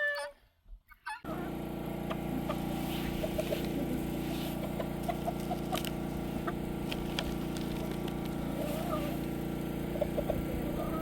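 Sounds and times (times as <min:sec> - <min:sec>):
steady mechanical hum: 0:01.2 - 0:11.0.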